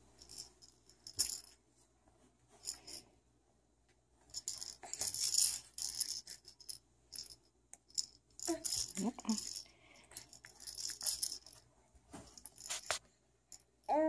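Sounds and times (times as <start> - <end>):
rattle socks shaking: 0.0 - 1.6, 2.5 - 3.0, 4.2 - 13.7.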